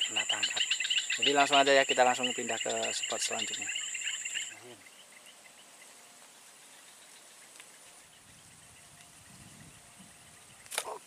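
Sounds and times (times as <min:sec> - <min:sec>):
soft steady hiss: 0:00.0 - 0:11.0.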